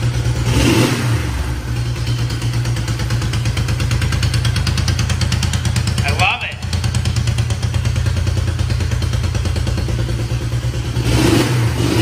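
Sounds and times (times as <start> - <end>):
engine revving: 0.0 - 12.0
motorcycle engine running: 0.0 - 12.0.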